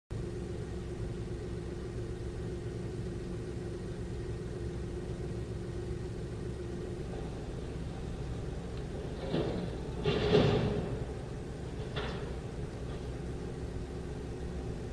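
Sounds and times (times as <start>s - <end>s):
ship engine running: 0.1s - 14.9s
steady humming tone: 0.1s - 14.9s.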